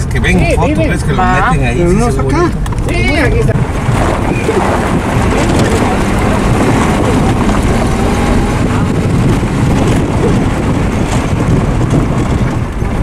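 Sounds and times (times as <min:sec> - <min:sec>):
wind buffeting microphone: 0:00.0 - 0:13.0
vehicle driving over rough ground: 0:02.0 - 0:13.0.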